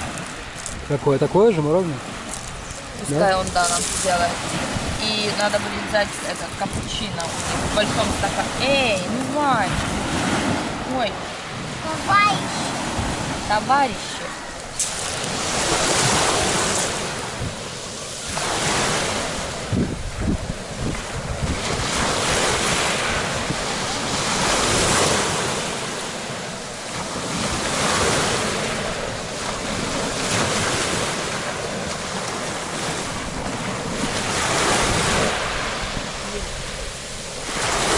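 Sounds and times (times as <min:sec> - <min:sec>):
waves breaking on pebbles: 0:00.0 - 0:37.9
wind buffeting microphone: 0:00.0 - 0:37.9.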